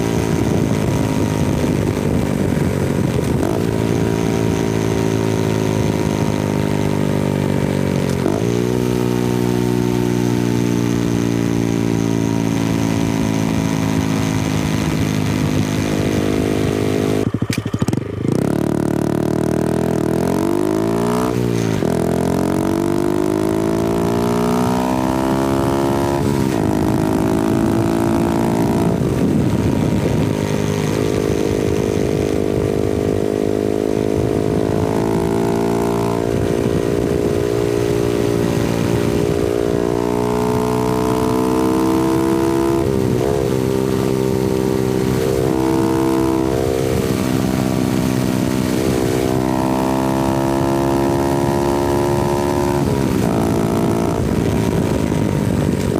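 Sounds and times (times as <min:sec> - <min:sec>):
motorcycle engine and exhaust: 0:00.0 - 0:55.9
wind noise: 0:00.0 - 0:55.9.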